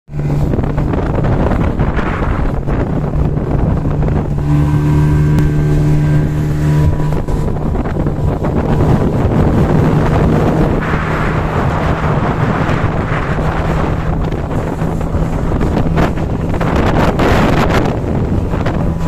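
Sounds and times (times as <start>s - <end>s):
outboard motor droning: 0.1s - 19.0s
wind rushing on microphone: 0.1s - 19.0s.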